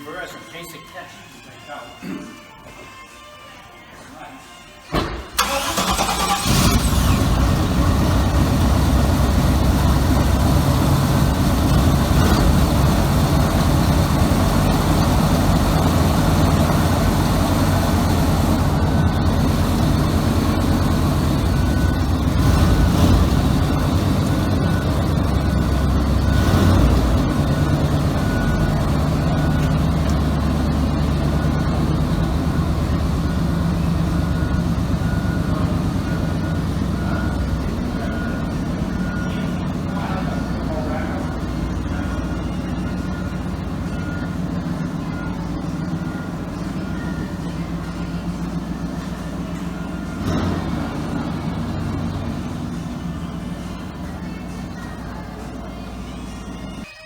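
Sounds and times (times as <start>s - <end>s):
car engine running: 5.4s - 56.9s.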